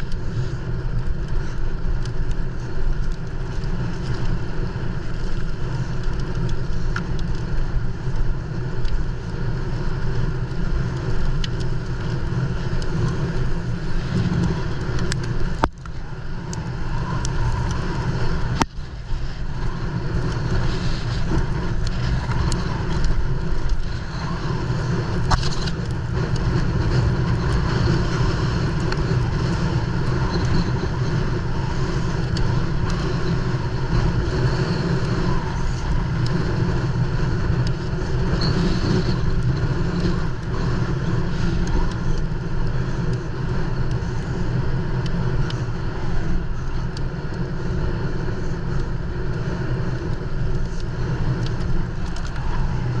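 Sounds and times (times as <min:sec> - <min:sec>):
bike rattling and clicking: 0:00.0 - 0:53.0
wind rushing on microphone: 0:00.0 - 0:53.0.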